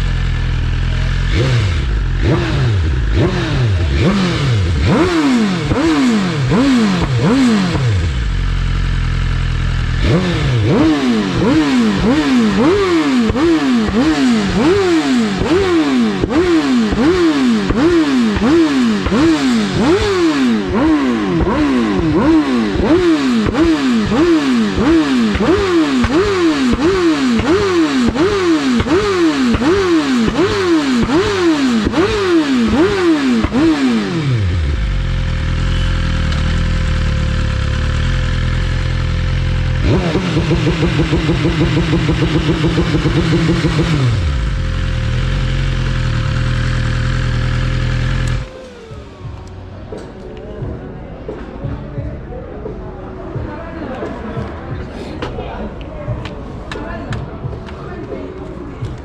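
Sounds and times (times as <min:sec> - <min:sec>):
motorcycle engine idling: 0:00.0 - 0:50.9
motorcycle engine revving: 0:00.0 - 0:50.9.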